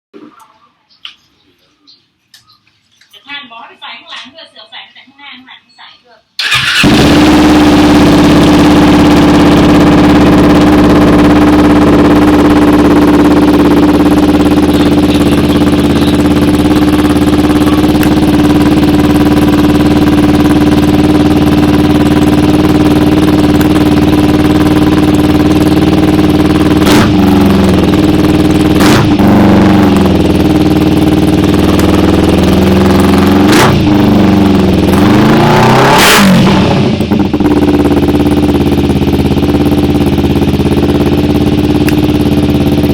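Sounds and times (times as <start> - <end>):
motorcycle engine idling and revving: 6.4 - 42.9.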